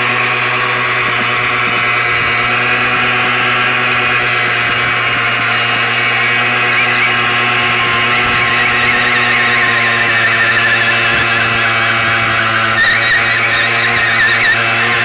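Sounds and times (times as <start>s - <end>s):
two-stroke moped engine revving: 0.0s - 15.0s
tyre spinning on wet asphalt: 0.0s - 15.0s.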